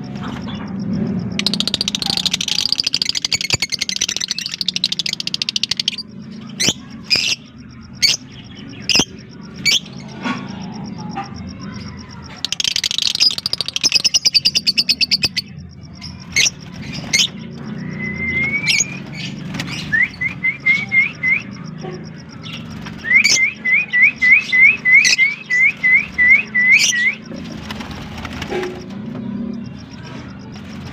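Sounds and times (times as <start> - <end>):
lovebirds chirping: 0.0 - 30.9
lovebirds rattling chatter: 0.0 - 30.9.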